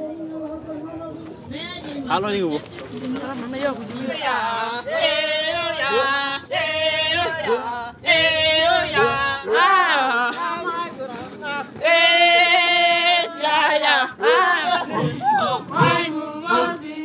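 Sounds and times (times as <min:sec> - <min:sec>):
men chanting: 0:03.1 - 0:17.0.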